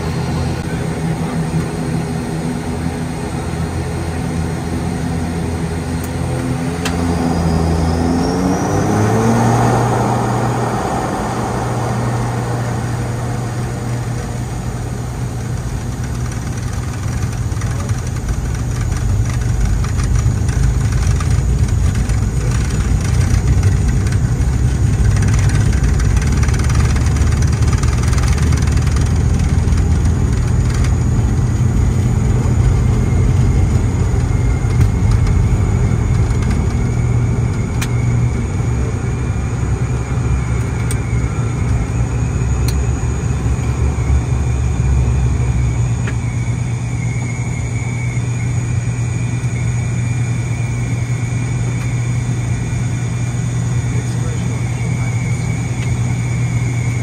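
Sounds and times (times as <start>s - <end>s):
faint high whine: 0.0s - 57.0s
turboprop engines droning: 0.0s - 57.0s.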